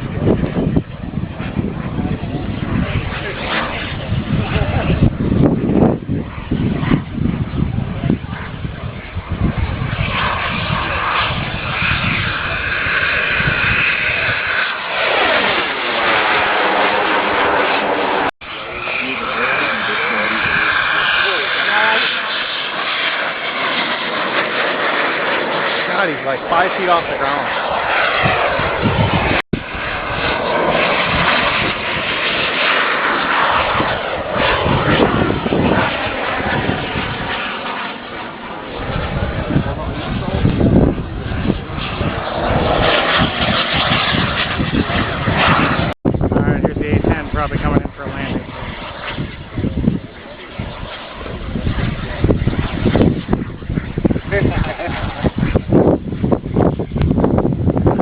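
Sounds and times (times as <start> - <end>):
model jet engines whining: 0.0 - 58.0.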